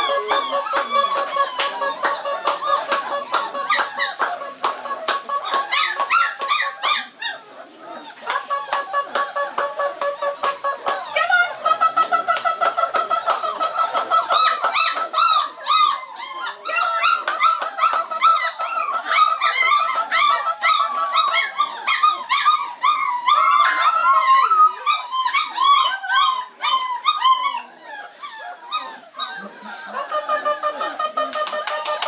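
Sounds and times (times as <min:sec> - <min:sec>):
puppies whining and yelping: 0:00.0 - 0:32.0.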